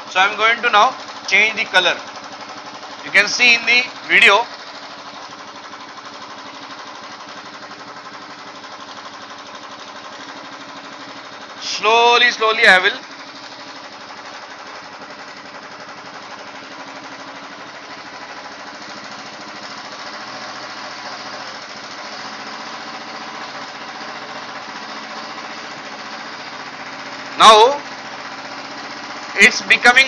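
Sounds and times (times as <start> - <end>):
motorcycle engine idling: 0.8 - 29.9.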